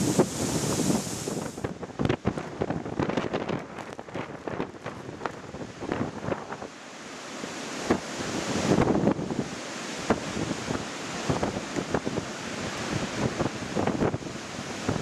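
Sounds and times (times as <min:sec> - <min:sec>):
gusty wind buffeting microphone: 0:00.0 - 0:06.8, 0:07.7 - 0:15.0.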